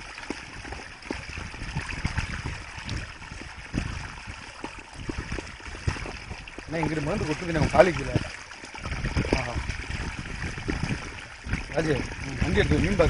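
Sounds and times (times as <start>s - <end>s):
water sloshing and splashing: 0.0s - 13.0s
low thumps and knocks: 0.2s - 13.0s.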